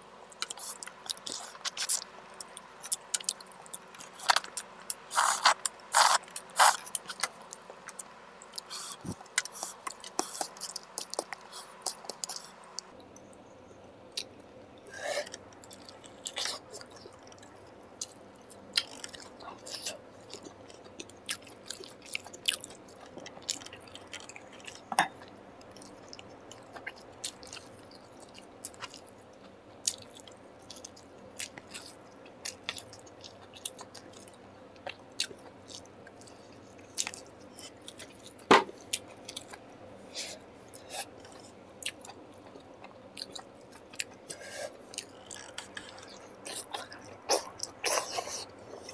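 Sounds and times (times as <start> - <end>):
person chewing food: 0.4 - 13.2, 14.1 - 48.9.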